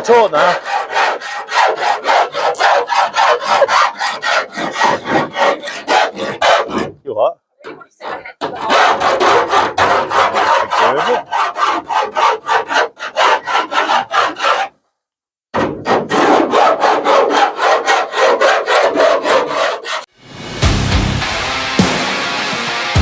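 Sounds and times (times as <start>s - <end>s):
metal file rasping on sheet steel: 0.0s - 7.0s, 7.6s - 14.8s, 15.6s - 20.1s.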